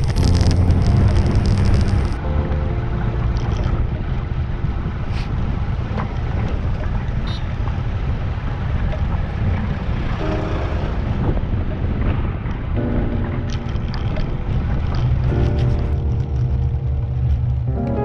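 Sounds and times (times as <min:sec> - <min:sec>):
wind buffeting microphone: 0:00.0 - 0:17.7.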